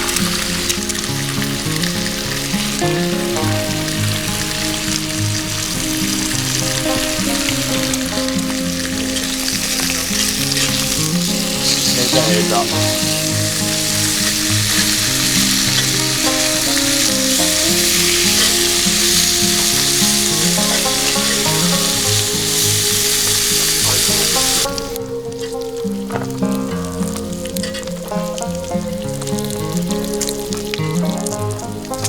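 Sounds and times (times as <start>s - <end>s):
background music: 0.0s - 32.0s
food sizzling in a pan: 0.0s - 32.0s.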